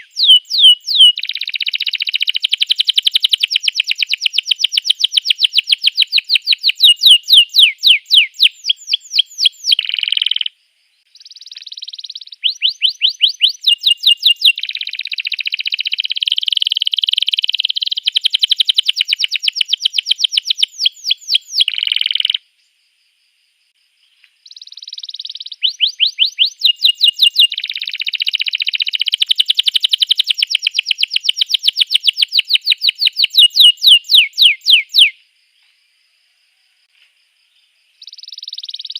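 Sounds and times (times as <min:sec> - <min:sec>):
canary singing: 0:00.0 - 0:10.5, 0:11.1 - 0:22.4, 0:24.4 - 0:35.2, 0:38.0 - 0:38.9.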